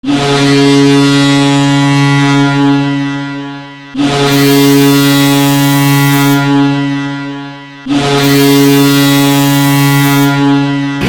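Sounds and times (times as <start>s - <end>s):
goal horn blast: 0.0s - 11.0s.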